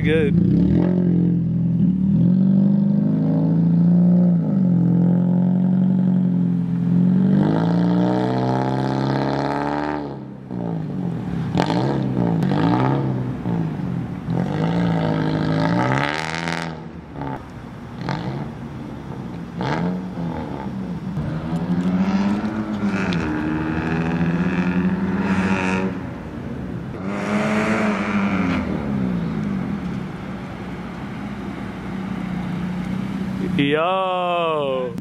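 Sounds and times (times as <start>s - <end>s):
car engine revving: 0.0s - 18.8s, 19.5s - 33.7s.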